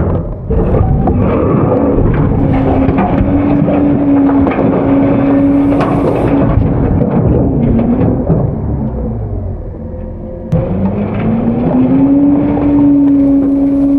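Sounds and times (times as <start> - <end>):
garbage truck running: 0.0 - 13.9
hydraulic packer whine: 0.0 - 13.9
metal clanks and knocks: 0.0 - 13.9.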